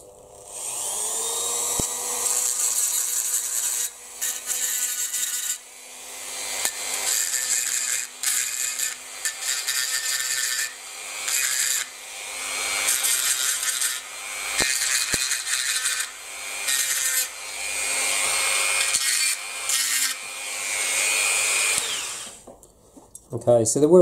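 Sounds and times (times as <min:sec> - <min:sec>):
rotary tool grinding metal: 0:00.3 - 0:22.4.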